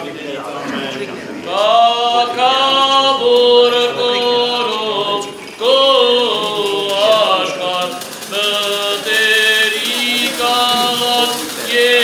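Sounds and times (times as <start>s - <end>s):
liturgical chant: 0.0s - 12.0s.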